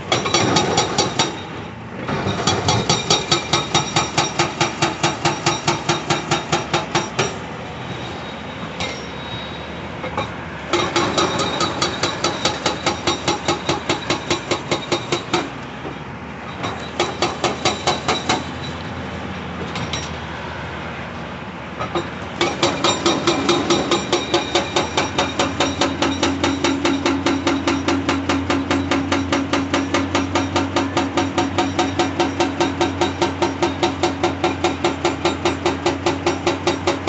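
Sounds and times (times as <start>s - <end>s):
hydraulic breaker hammering rock: 0.0s - 7.4s, 10.0s - 15.6s, 16.6s - 18.6s, 21.8s - 37.0s.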